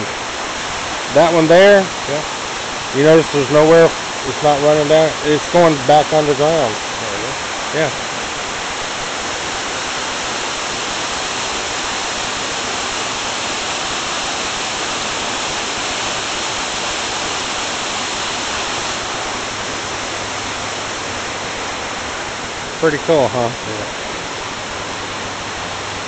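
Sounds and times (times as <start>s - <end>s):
waterfall rushing and splashing: 0.0s - 26.0s.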